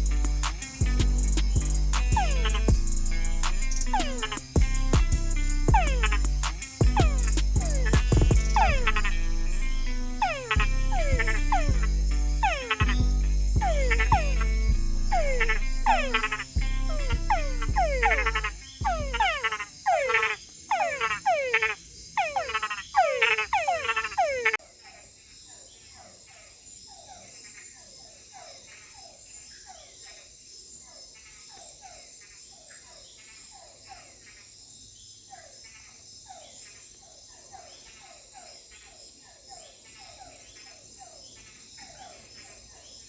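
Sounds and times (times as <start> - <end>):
chorus of frogs calling: 0.0 - 43.0.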